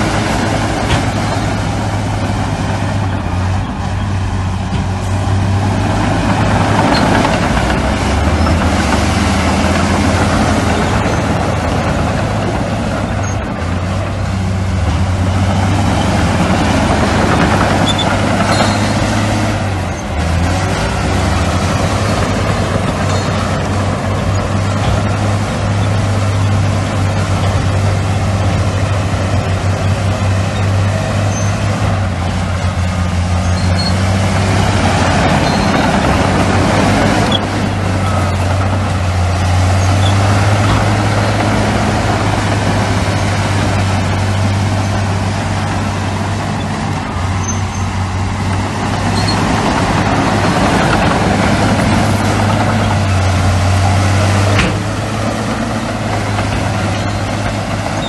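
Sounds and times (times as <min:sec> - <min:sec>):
diesel machinery engine drone: 0:00.0 - 0:58.0
rushing clattering noise: 0:00.0 - 0:58.0.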